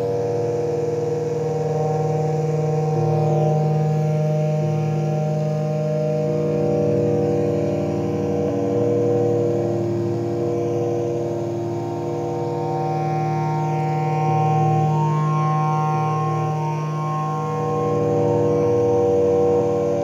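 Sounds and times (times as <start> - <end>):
synthesizer drone chord: 0.0 - 20.0.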